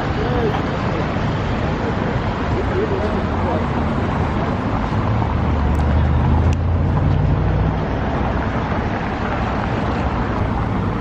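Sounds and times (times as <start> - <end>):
street traffic noise: 0.0 - 11.0
vehicle engine humming low: 0.0 - 11.0.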